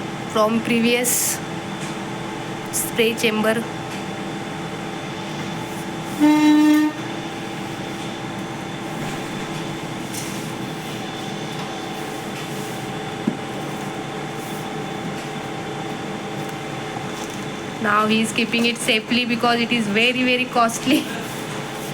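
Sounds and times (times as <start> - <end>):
laboratory machinery hum: 0.0 - 21.9.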